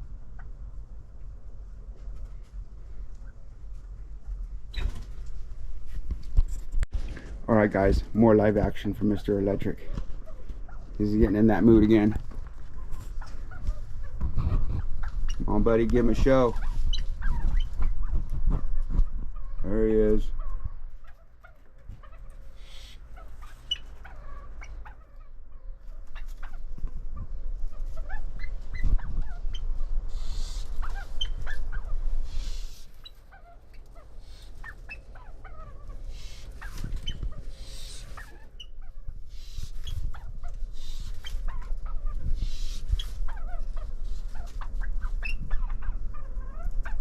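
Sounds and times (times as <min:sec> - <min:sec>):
pheasants calling harshly: 0:07.6 - 0:47.0.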